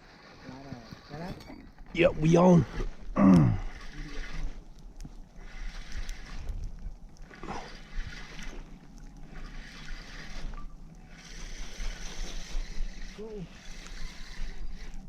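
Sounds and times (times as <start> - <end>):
wind buffeting microphone: 2.0 - 15.0.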